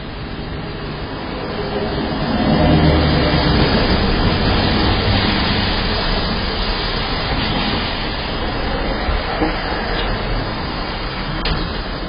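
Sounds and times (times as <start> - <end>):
pickup truck driving past: 1.1 - 11.0.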